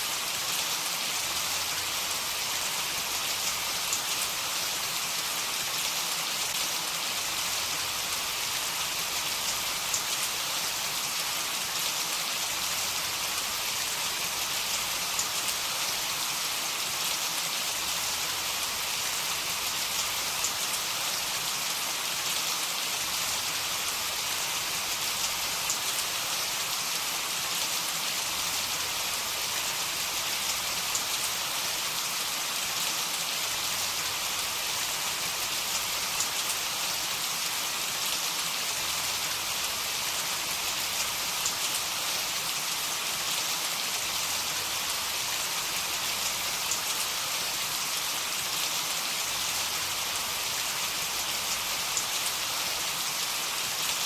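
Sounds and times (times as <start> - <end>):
faint patter of raindrops: 0.0 - 54.0
heavy rain hissing: 0.0 - 54.0.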